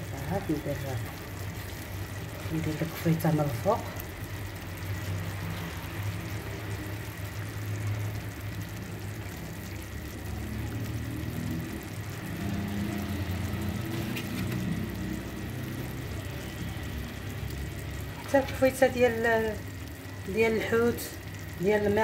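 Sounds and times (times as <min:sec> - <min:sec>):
sauce simmering in clay pot: 0:00.0 - 0:22.0.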